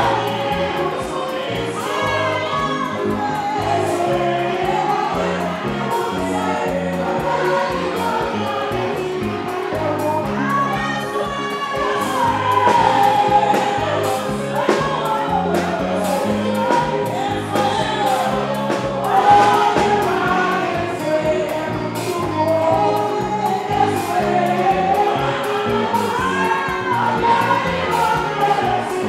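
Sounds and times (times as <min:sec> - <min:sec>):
gospel band with singers: 0:00.0 - 0:29.0.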